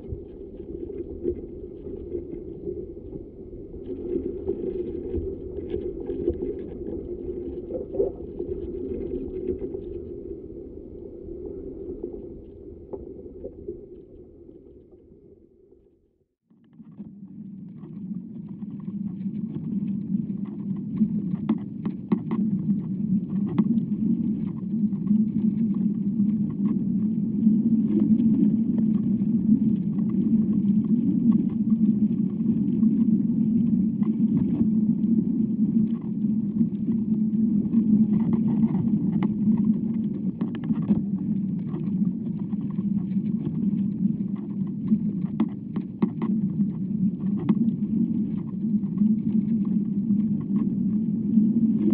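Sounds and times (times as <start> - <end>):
faint ticks and crackles: 0.0 - 15.2, 16.5 - 51.9
low rumble inside tree trunk: 0.0 - 51.9.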